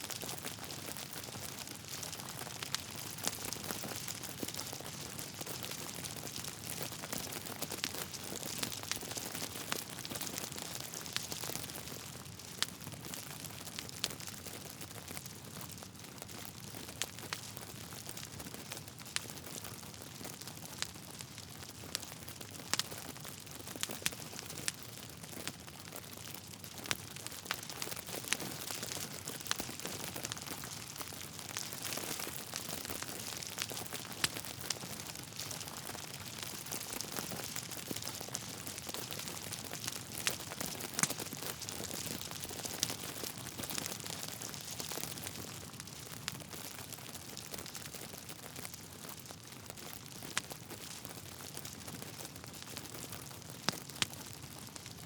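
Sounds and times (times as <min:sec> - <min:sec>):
fire crackling and hissing: 0:00.0 - 0:55.0.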